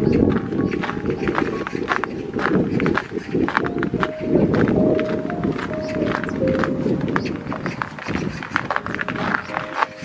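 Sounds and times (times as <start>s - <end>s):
background music with long notes: 0.0s - 10.0s
footsteps on snowy path: 0.0s - 10.0s.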